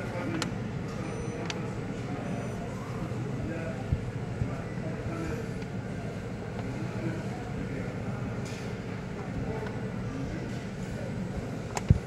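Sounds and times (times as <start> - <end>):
store background rumble: 0.0 - 12.0.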